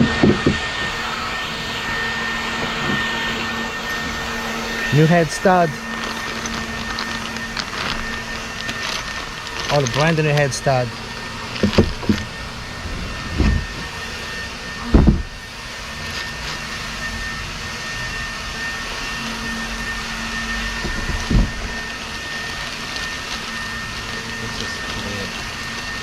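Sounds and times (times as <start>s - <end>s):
whooshing blower with whine: 0.0s - 26.0s.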